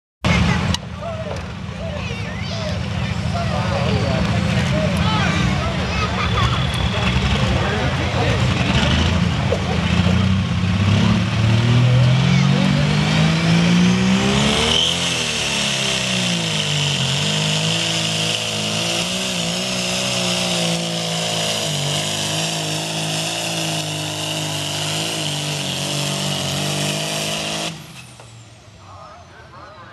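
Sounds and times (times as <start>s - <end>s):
diesel tractor engine revving hard: 3.2s - 28.4s.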